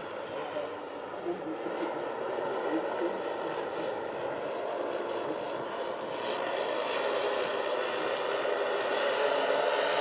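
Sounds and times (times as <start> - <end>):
model plane engines droning: 0.0 - 10.0.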